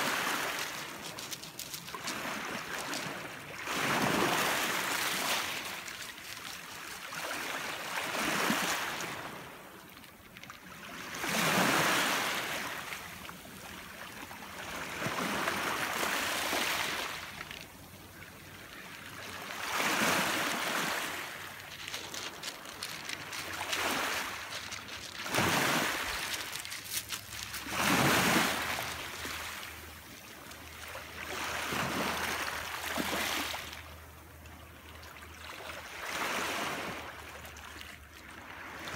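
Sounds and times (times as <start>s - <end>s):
small waves on pebble shore: 0.0s - 34.1s, 34.7s - 38.9s.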